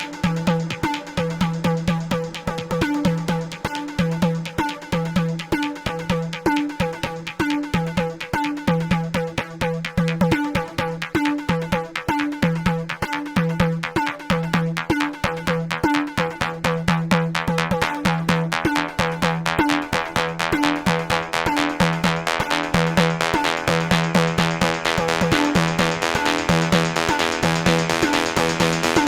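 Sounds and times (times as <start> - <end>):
electronic music with drum machine: 0.0 - 29.0.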